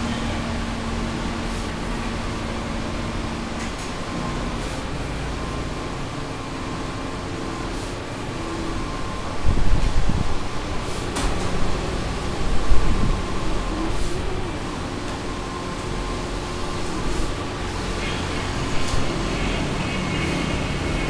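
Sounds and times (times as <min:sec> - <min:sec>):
printers humming: 0:00.0 - 0:21.0.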